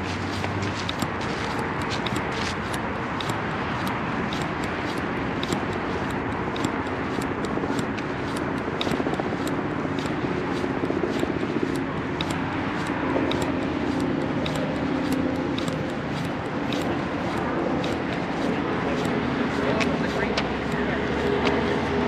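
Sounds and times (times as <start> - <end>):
light sharp footsteps: 0.0 - 22.0
road traffic hum: 0.0 - 22.0.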